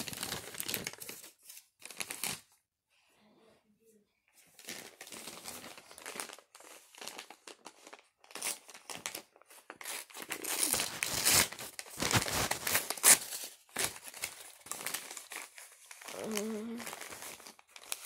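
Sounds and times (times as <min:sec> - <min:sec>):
packaging crinkling and ripping: 0:00.0 - 0:02.5, 0:04.6 - 0:18.0.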